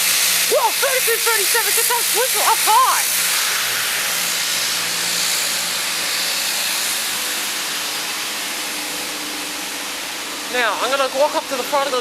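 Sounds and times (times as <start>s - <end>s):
steam locomotive venting steam: 0.0s - 12.0s.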